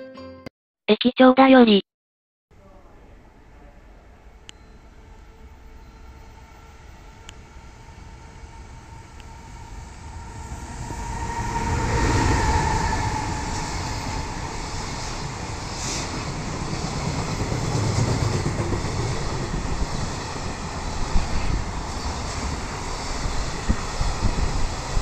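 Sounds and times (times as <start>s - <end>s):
electric locomotive passing: 2.6s - 25.0s
freight train rumbling past: 2.6s - 25.0s.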